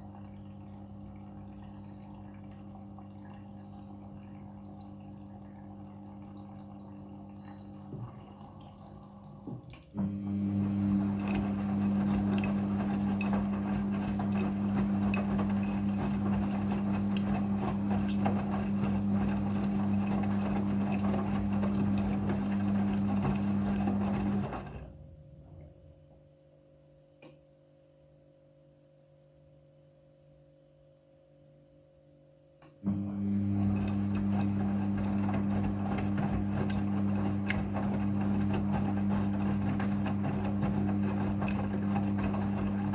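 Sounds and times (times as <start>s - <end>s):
washing machine hum: 0.0s - 26.7s, 32.8s - 42.9s.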